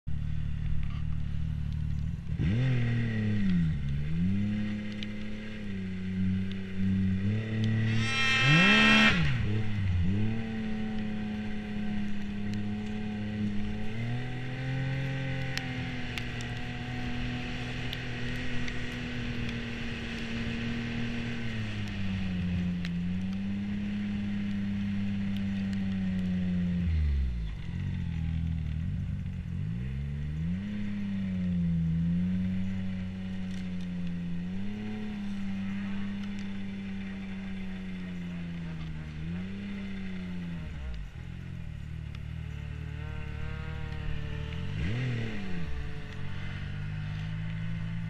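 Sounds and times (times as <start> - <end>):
snowmobile engine revving: 2.2 - 48.0.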